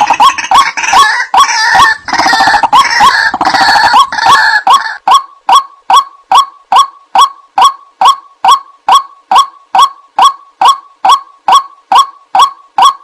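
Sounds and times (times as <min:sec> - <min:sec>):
waterhen honking call: 0:00.0 - 0:13.0.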